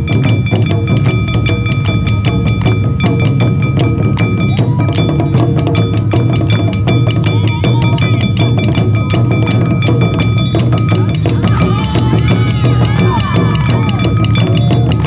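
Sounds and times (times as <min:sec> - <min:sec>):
drums beating: 0:00.0 - 0:15.0
metal hand gong ringing: 0:00.0 - 0:15.0.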